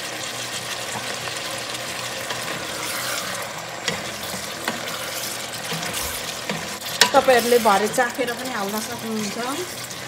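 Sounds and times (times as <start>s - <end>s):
curry sizzling in a pot: 0.0s - 10.0s.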